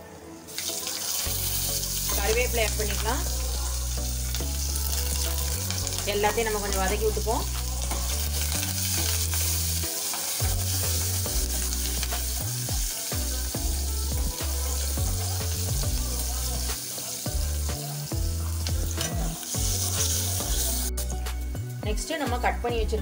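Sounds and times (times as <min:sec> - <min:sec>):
chillies sizzling in hot oil: 0:00.0 - 0:22.8.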